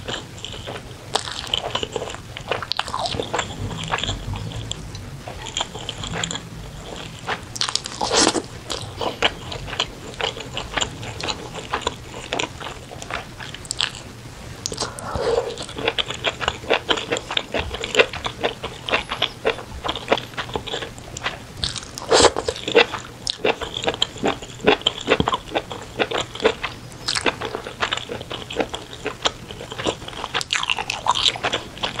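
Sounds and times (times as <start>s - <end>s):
chewing and biting food: 0.0s - 32.0s.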